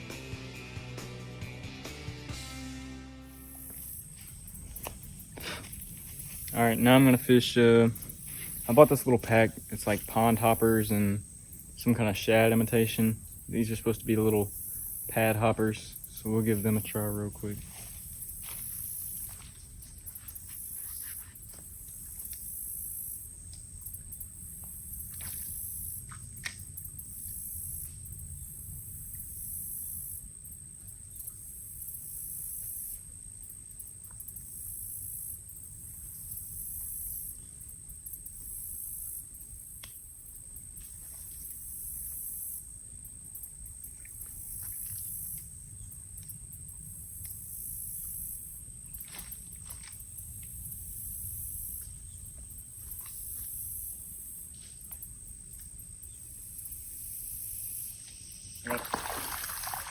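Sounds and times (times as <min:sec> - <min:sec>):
insects whining: 0:00.0 - 0:59.9
insect buzzing: 0:03.2 - 0:17.1, 0:17.7 - 0:45.9, 0:46.6 - 0:59.9.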